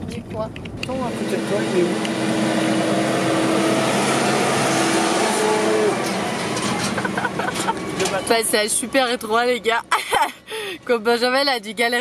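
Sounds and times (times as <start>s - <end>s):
tractor diesel engine drone: 0.8s - 11.4s.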